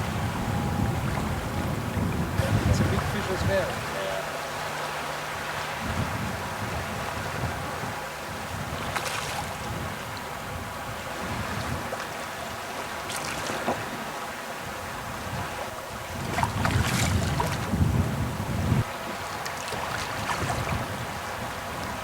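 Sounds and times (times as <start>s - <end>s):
river water: 0.0s - 22.0s
wind buffeting microphone: 0.0s - 22.0s.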